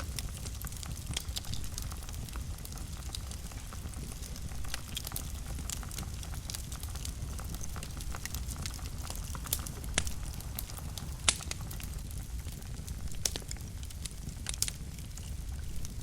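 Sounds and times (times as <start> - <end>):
fire crackling: 0.0 - 16.0
fire flames rumbling: 0.0 - 16.0
loud fire pops: 0.0 - 16.0.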